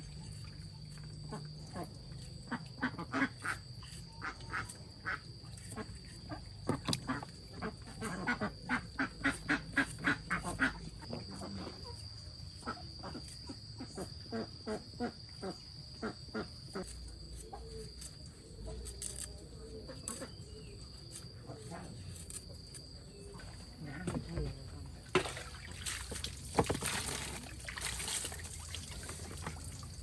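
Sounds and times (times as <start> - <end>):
high-pitched insect whine: 0.0 - 24.7, 25.4 - 30.0.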